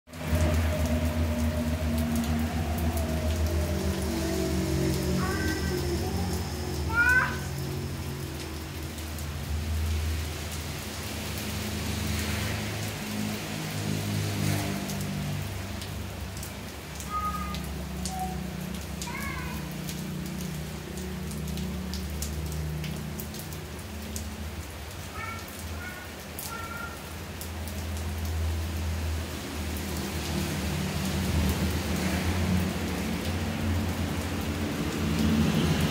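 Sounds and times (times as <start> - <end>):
rain falling on tiles: 0.1 - 35.9.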